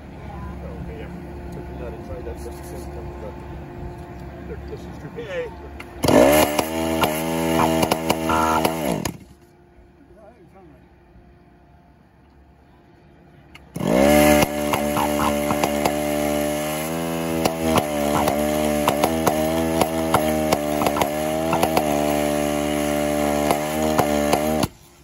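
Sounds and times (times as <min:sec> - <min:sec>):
small two-stroke engines running: 0:00.0 - 0:10.2, 0:13.1 - 0:25.0.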